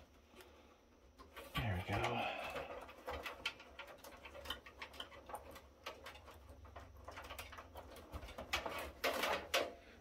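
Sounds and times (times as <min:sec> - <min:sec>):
cables and connectors rattling: 0:00.0 - 0:10.0.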